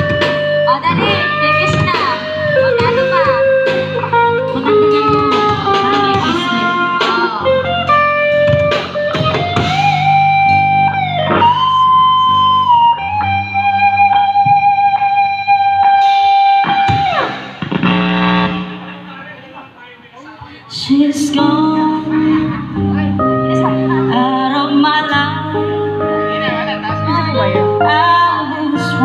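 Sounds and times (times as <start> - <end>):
electric guitar melody over backing: 0.0 - 19.8, 20.7 - 29.0.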